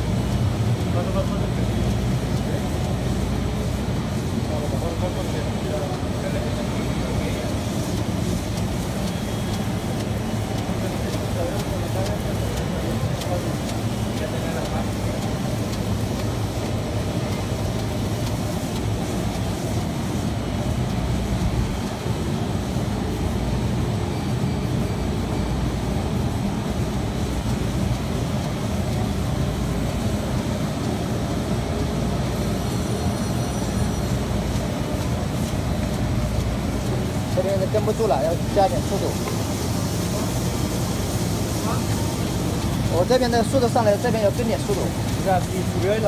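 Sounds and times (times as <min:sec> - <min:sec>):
printing press running: 0:00.0 - 0:46.0.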